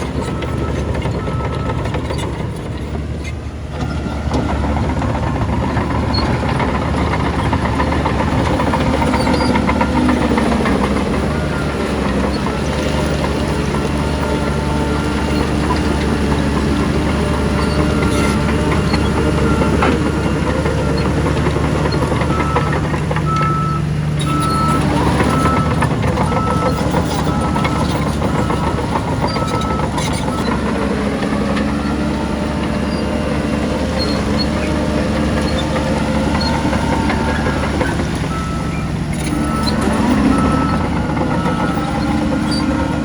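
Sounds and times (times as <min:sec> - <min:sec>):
heavy diesel machinery running: 0:00.0 - 0:43.0
reversing alarm beeping: 0:03.9 - 0:33.2, 0:34.1 - 0:43.0.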